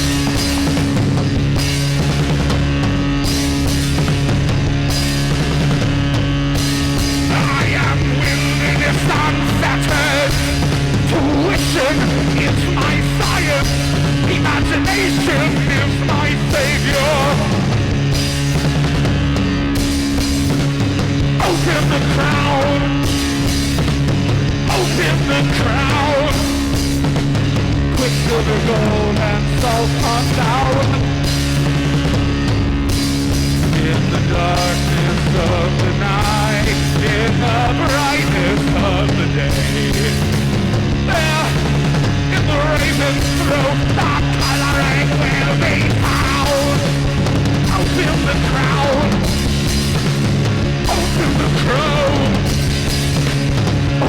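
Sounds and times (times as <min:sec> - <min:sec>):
drums beating: 0:00.0 - 0:54.0
rock band playing: 0:00.0 - 0:54.0.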